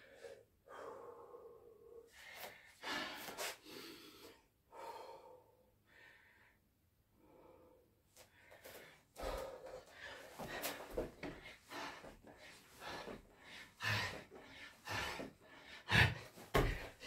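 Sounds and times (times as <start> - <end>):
man breathing heavily: 0.0 - 17.0.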